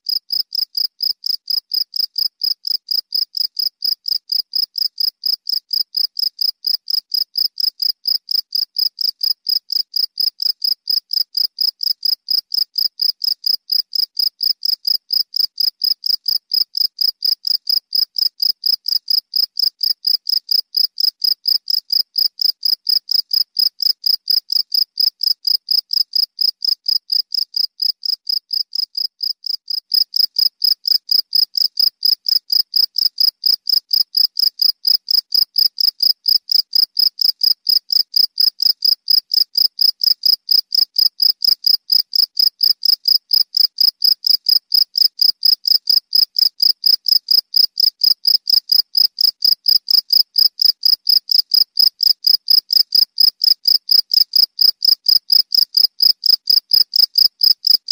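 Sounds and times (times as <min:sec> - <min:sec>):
cricket chirping: 0:00.1 - 0:57.8.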